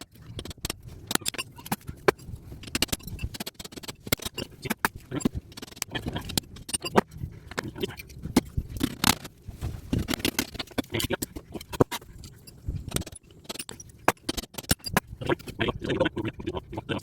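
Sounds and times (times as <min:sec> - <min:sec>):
metal clinks and scraping: 0:00.0 - 0:15.6.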